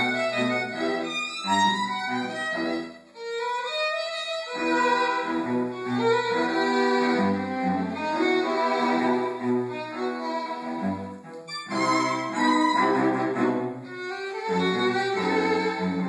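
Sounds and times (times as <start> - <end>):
string trio playing a tango: 0.0 - 16.0.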